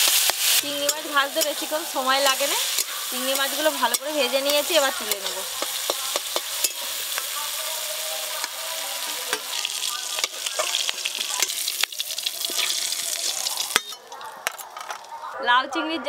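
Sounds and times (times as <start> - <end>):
metal spatula scraping wok: 0.0 - 15.1
shrimp sizzling in hot oil: 0.0 - 15.2.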